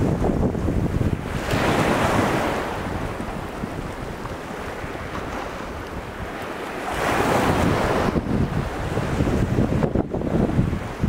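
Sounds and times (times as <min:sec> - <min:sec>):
surf washing against cliffs: 0:00.0 - 0:11.0
wind buffeting microphone: 0:00.0 - 0:11.0.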